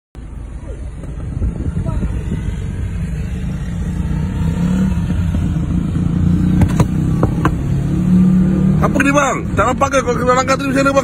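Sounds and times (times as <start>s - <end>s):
car engine hum from inside: 0.2s - 11.0s.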